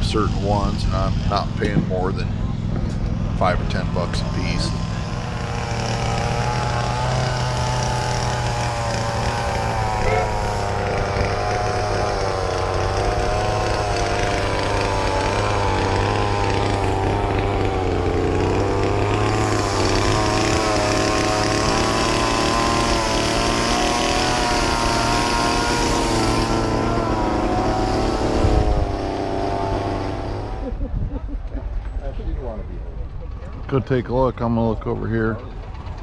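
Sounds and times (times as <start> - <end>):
small motor whine: 0.0 - 30.9.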